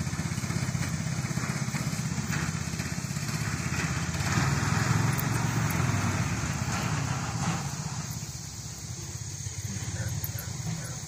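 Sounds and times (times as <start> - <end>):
small go-kart engine puttering: 0.0 - 11.0.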